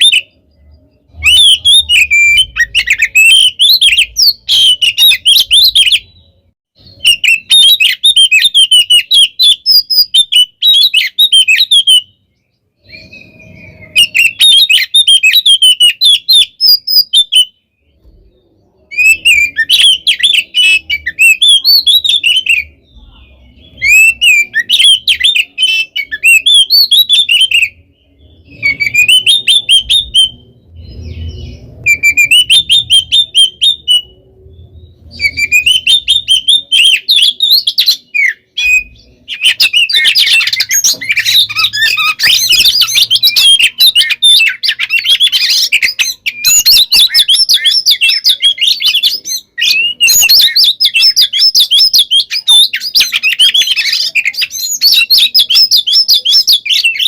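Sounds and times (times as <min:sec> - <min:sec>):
bird singing chirps and whistles: 0:00.0 - 0:57.0.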